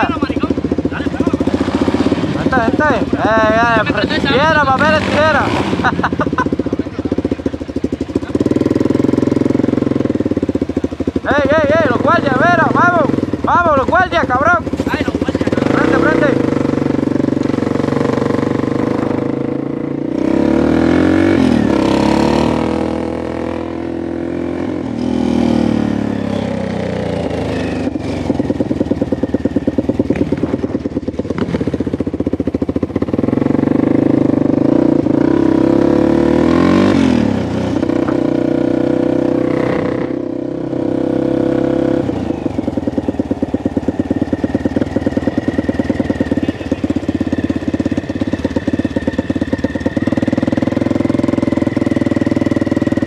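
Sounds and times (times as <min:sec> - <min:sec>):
small vehicle engine revving: 0:00.0 - 0:53.0.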